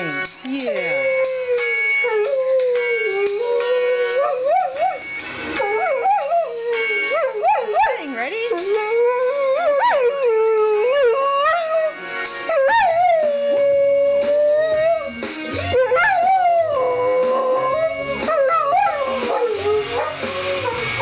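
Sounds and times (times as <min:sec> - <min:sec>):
recorded pop song: 0:00.0 - 0:21.0
dog howling: 0:00.7 - 0:05.0, 0:05.6 - 0:08.0, 0:08.7 - 0:11.9, 0:12.5 - 0:21.0.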